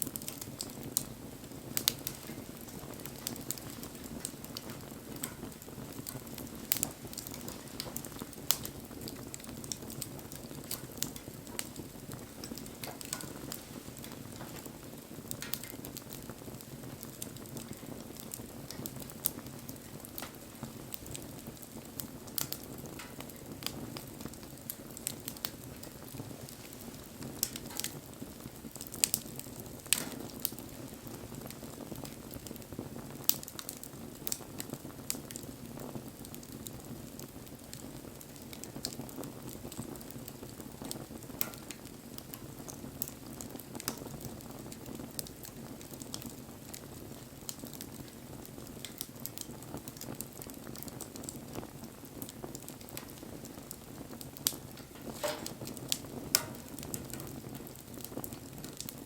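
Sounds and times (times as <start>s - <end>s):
fire crackling and popping: 0.0s - 59.0s
low rush of flame: 0.0s - 59.0s.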